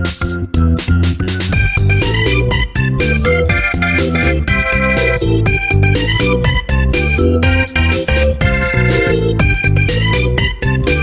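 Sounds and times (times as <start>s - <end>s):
upbeat keyboard and bass music: 0.0s - 11.0s.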